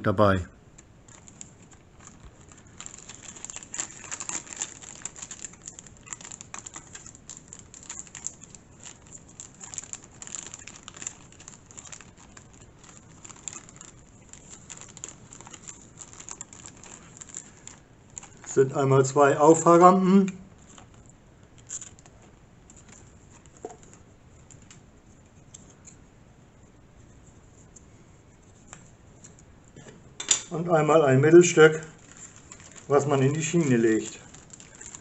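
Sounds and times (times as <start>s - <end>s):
plastic bag crinkling: 0.7s - 26.0s, 30.5s - 35.0s.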